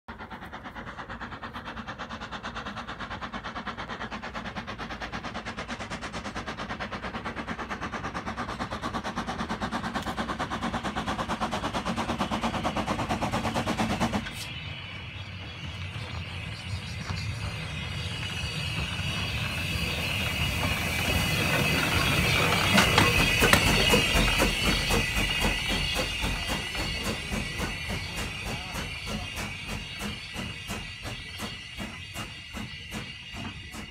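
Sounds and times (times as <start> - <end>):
steam locomotive exhaust beats: 0.0 - 33.9.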